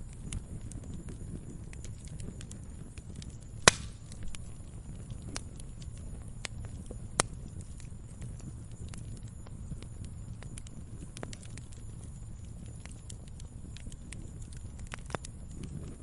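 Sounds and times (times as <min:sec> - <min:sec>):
log fire crackling: 0:00.0 - 0:16.0
loud fire pops: 0:00.0 - 0:16.0
low rumble of flames: 0:00.0 - 0:16.0.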